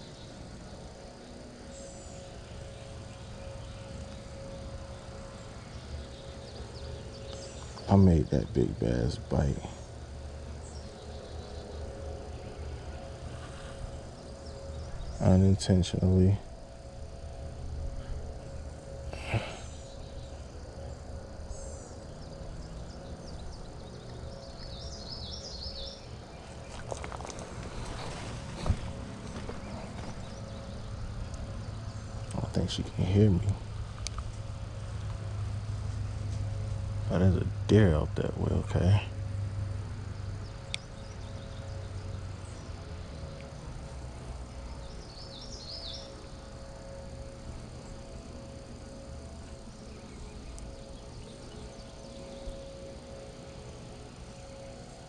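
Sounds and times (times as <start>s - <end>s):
low outdoor rumble: 0.0s - 55.0s
low steady hum: 0.0s - 55.0s
small birds chirping: 0.0s - 55.0s.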